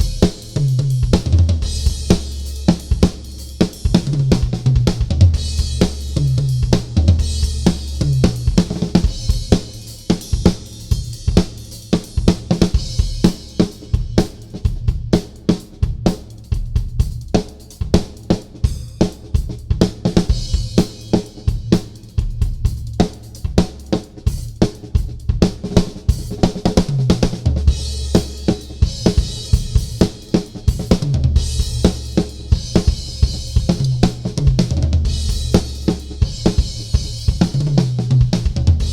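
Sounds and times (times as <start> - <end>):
drum solo: 0.0 - 38.9.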